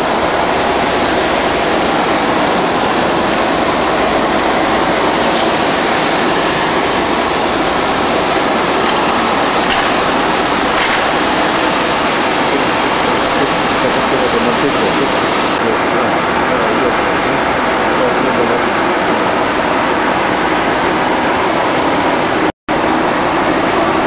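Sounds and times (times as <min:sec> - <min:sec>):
conveyor running: 0:00.0 - 0:24.0
packaging machine hot-air blower rushing: 0:00.0 - 0:24.0.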